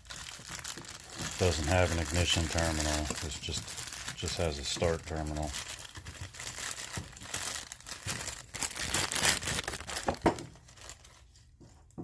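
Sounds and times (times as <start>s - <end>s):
crinkling handling noise: 0.0s - 12.0s.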